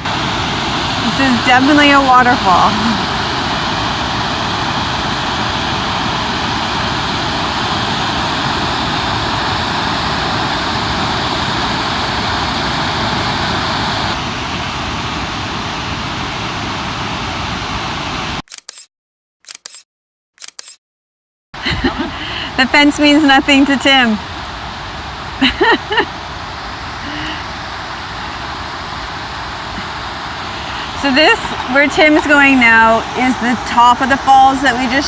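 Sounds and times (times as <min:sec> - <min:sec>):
waterfall roaring: 0:00.0 - 0:18.4, 0:21.6 - 0:35.0.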